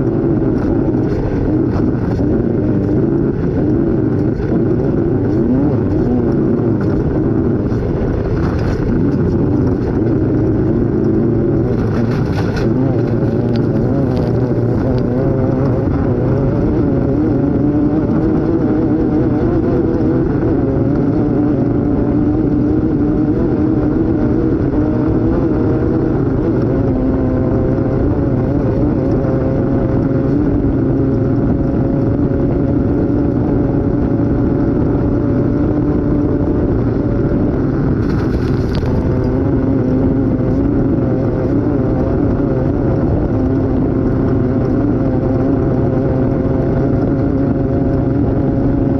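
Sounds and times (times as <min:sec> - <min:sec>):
race engine running hard: 0:00.0 - 0:48.9
rumble over rough ground: 0:00.0 - 0:48.9.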